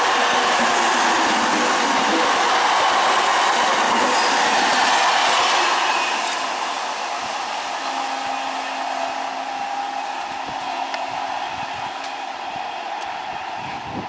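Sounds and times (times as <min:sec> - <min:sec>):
electric train passing at speed: 0:00.0 - 0:14.0.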